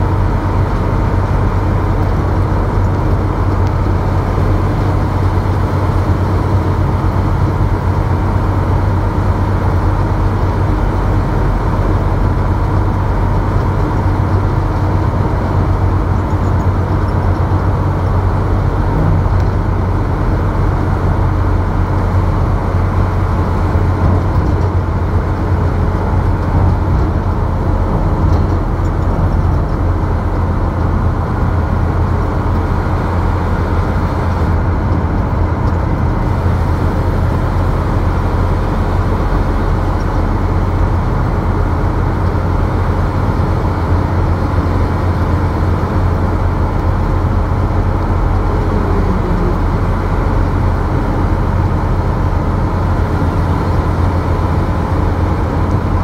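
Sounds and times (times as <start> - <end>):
vehicle driving on highway: 0.0 - 56.0.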